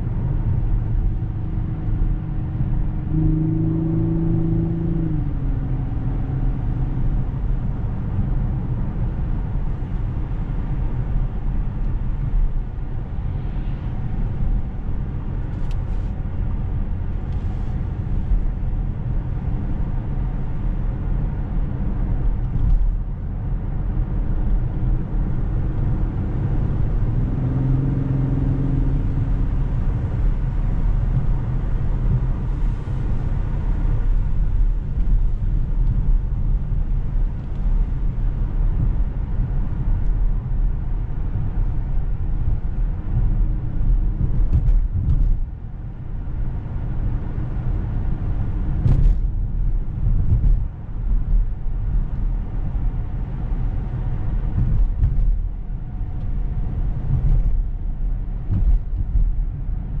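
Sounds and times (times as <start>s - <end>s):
road and tyre rumble: 0.0s - 60.0s.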